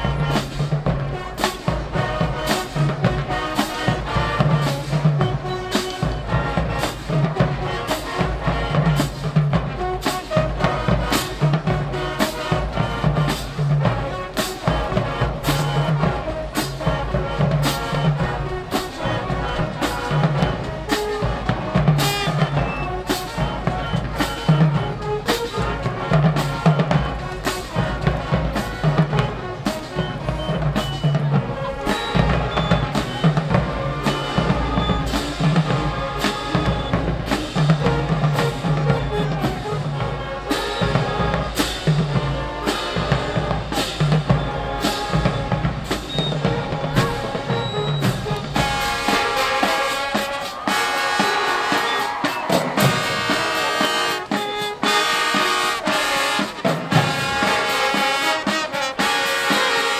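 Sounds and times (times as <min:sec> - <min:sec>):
brass section chords: 0:00.0 - 0:59.9
marching drums: 0:00.0 - 0:59.9.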